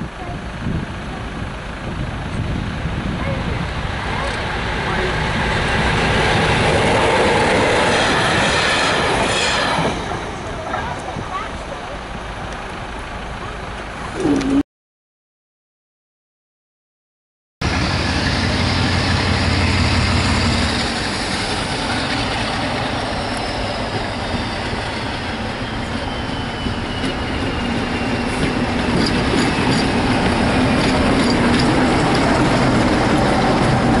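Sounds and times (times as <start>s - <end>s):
diesel locomotive engine running: 0.0s - 14.6s, 17.6s - 34.0s
train wheels rolling on rails: 0.1s - 14.0s, 17.6s - 34.0s.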